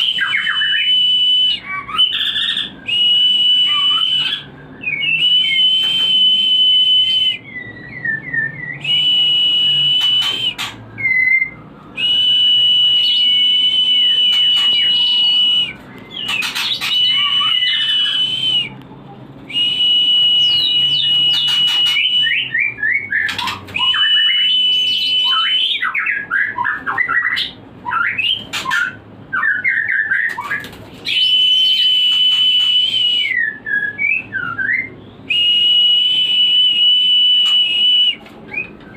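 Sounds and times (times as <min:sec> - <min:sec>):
songbird whistling and chirping: 0:00.0 - 0:18.9, 0:19.5 - 0:38.9.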